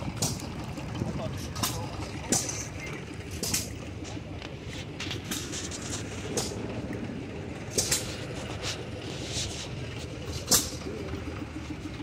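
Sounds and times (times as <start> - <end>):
old machinery droning: 0.0 - 12.0.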